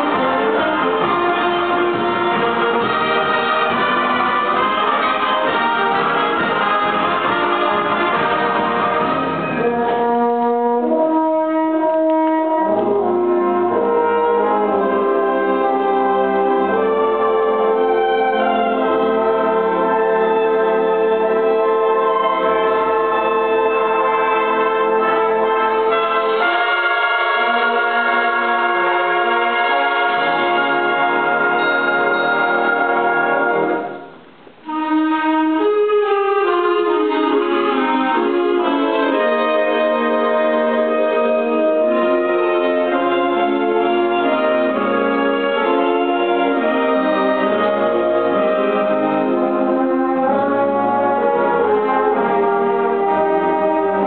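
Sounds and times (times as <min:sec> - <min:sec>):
brass: 0:00.0 - 0:54.0
woodwinds: 0:00.0 - 0:54.0.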